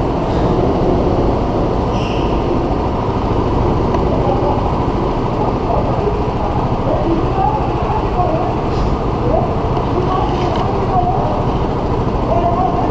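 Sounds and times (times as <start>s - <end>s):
go-kart engines droning: 0.0s - 12.9s.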